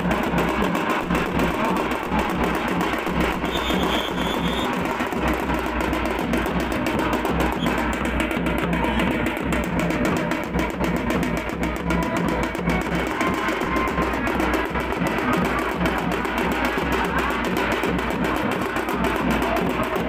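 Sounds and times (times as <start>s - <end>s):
fast drumming on drum: 0.0s - 20.0s.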